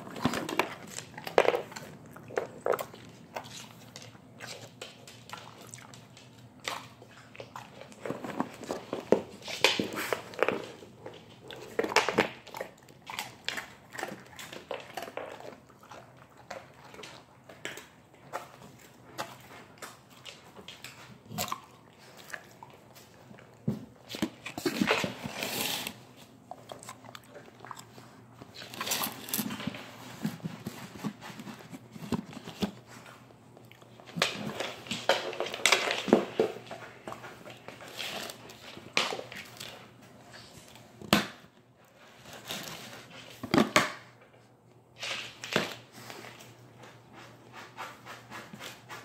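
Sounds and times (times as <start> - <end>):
dog licking floor: 0.0 - 40.9
dog crunching biscuits: 0.0 - 41.4.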